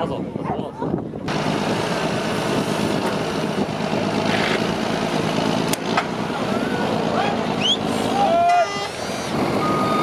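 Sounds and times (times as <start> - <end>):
truck engine running: 1.3 - 10.0.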